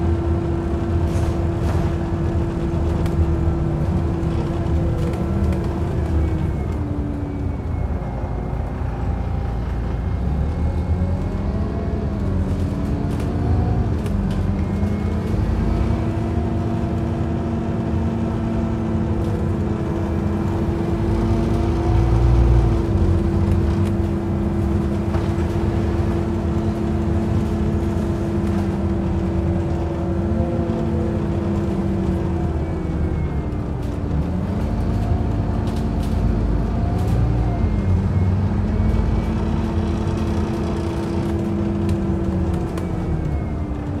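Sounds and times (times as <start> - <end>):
bus engine hum: 0.0 - 44.0
road noise: 0.0 - 44.0.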